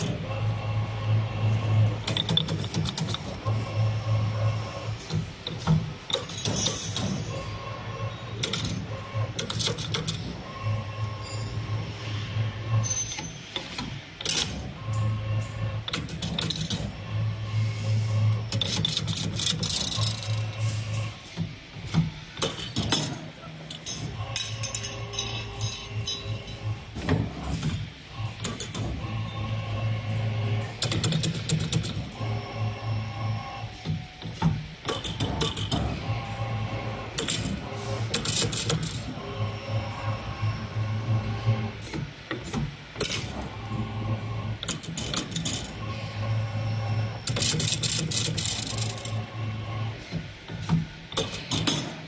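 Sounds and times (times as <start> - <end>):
machine motors humming: 0.0 - 52.0.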